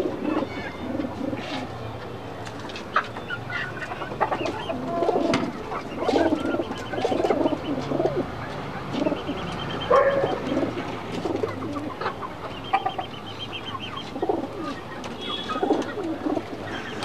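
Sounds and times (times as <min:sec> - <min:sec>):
pigeons cooing: 0:00.0 - 0:01.8, 0:02.8 - 0:17.0.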